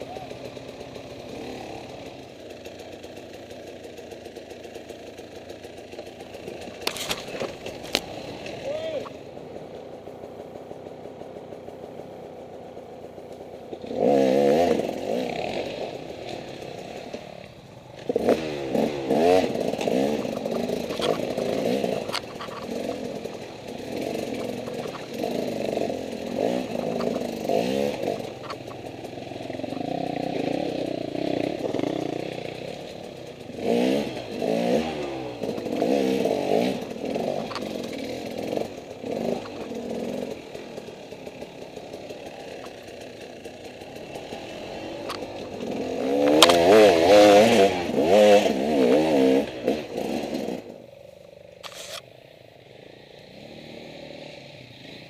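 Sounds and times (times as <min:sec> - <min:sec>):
dirt bike engine revving: 0:00.0 - 0:50.9, 0:52.6 - 0:55.0.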